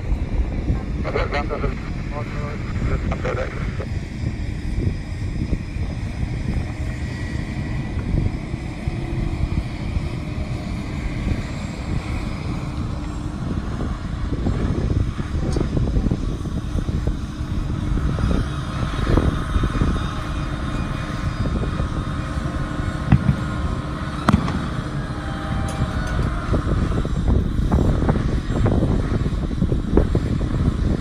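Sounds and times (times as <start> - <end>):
aircraft hum and whine: 0.0 - 31.0
wind buffeting microphone: 0.0 - 31.0.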